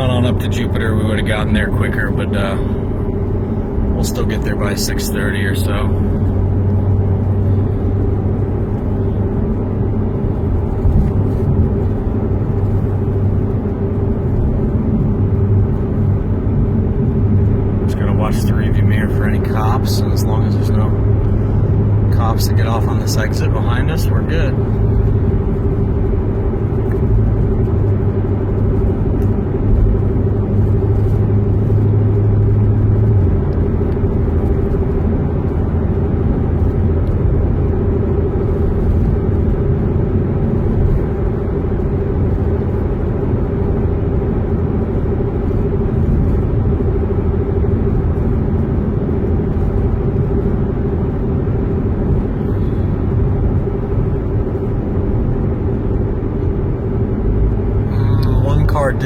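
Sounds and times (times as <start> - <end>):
car engine and tyres drone: 0.0 - 59.0.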